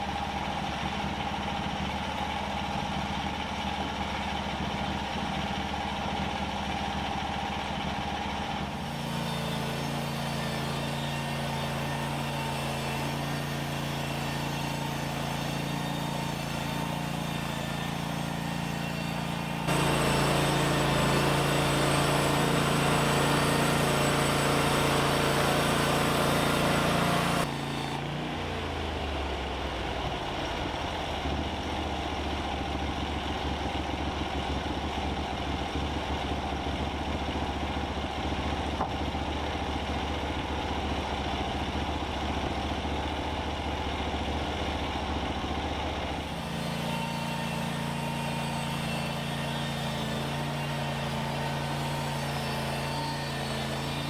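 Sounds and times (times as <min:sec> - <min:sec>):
sawmill gas engine running: 0:00.0 - 0:54.0.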